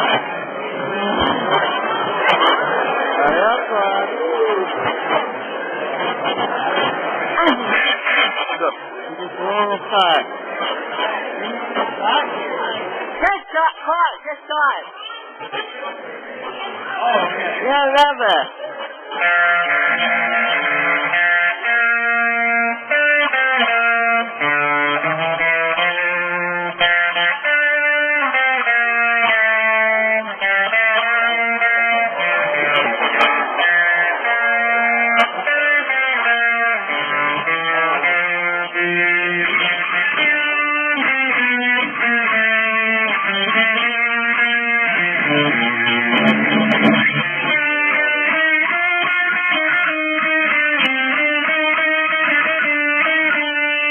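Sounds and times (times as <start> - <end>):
plucked and strummed guitar: 0.0 - 53.9.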